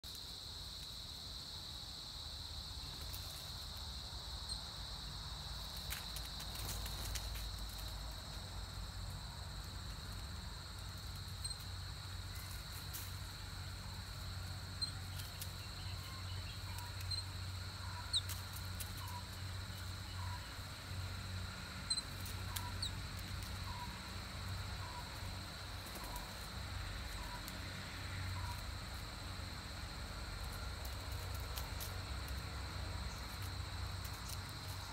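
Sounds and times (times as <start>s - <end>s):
insects chirring: 0.0s - 34.9s.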